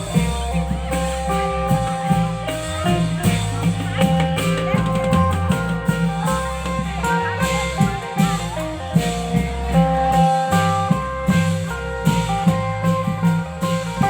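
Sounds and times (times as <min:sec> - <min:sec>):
bass line: 0:00.0 - 0:14.0
drum beats: 0:00.0 - 0:14.0
plucked string melody: 0:00.0 - 0:14.0.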